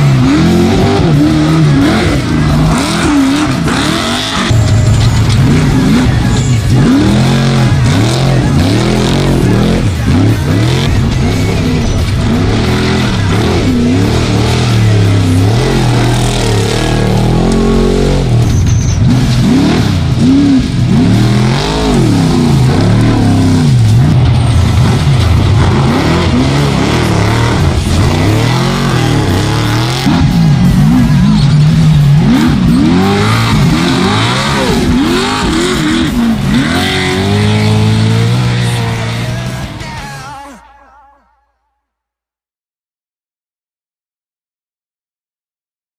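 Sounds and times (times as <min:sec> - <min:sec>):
low drone: 0:00.0 - 0:41.0
truck engine revving: 0:00.0 - 0:41.1.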